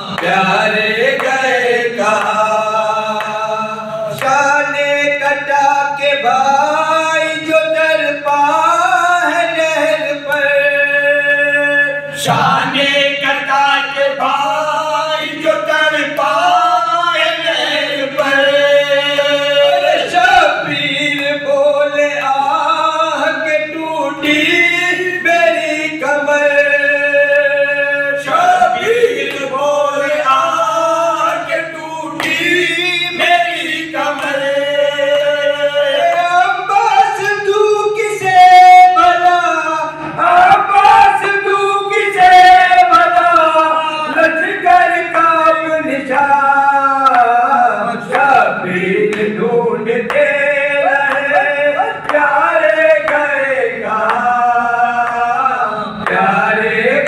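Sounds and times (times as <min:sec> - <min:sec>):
men singing unaccompanied: 0:00.0 - 0:57.0.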